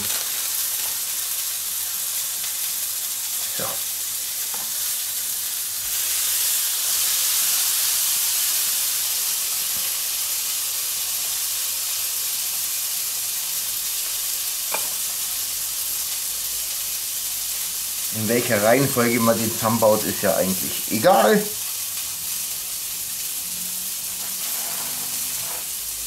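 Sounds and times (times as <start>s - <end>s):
burger patty sizzling in a pan: 0.0s - 26.0s.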